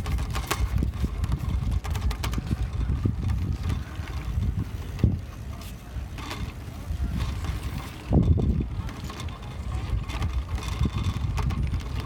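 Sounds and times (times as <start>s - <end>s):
light knocks and rattles: 0.0s - 12.0s
wind buffeting microphone: 0.0s - 12.0s.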